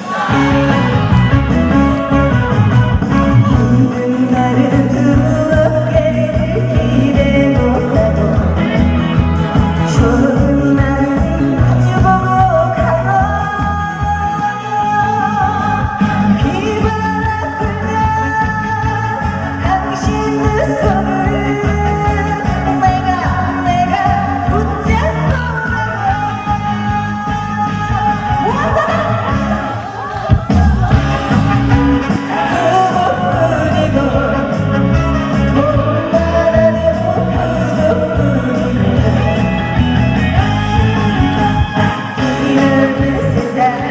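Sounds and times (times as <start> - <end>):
amplified backing track: 0.0 - 43.9
woman singing: 3.1 - 43.9.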